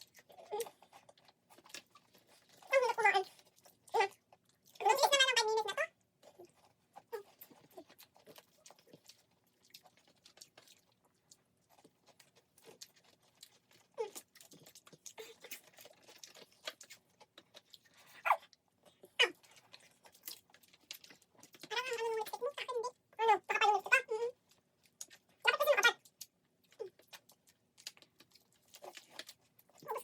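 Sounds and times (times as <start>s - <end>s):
chewing: 0.0s - 30.0s.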